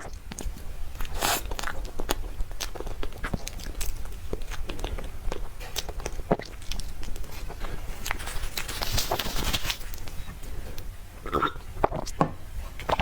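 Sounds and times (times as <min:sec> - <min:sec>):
wet chewing and mouth clicks: 0:00.0 - 0:12.2, 0:12.8 - 0:13.0.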